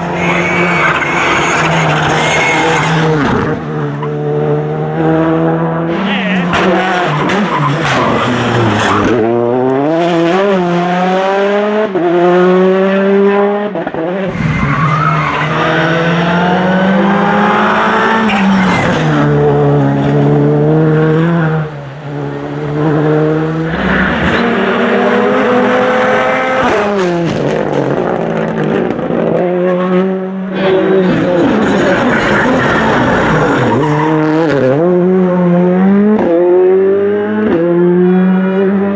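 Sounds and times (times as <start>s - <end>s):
rally cars passing revving hard: 0.0s - 38.9s.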